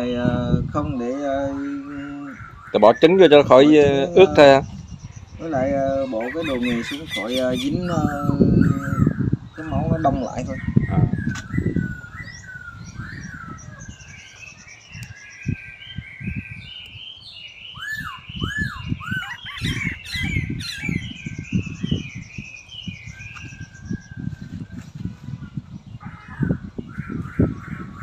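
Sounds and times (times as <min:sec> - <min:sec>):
arching bird calls: 0:00.0 - 0:24.4, 0:25.3 - 0:28.0
birds chirping and twittering: 0:00.0 - 0:28.0.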